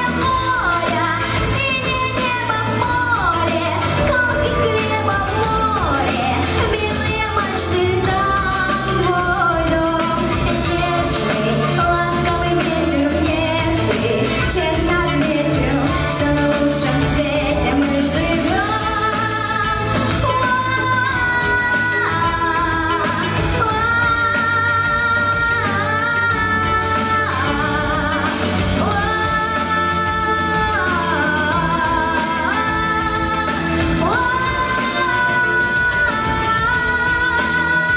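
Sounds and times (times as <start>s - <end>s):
girl singing: 0.0s - 37.9s
instrumental accompaniment: 0.0s - 37.9s.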